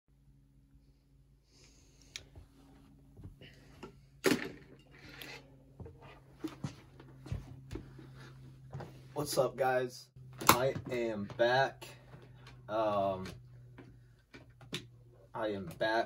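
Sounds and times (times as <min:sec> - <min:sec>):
low steady hum: 0:00.1 - 0:16.0.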